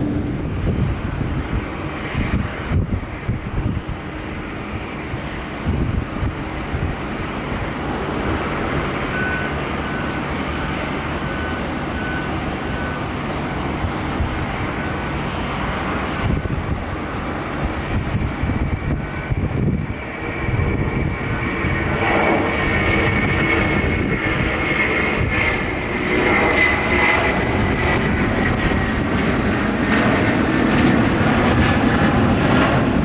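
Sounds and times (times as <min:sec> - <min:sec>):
high jet engine whine: 0:00.0 - 0:33.0
jet engines heavy rumble: 0:00.0 - 0:33.0.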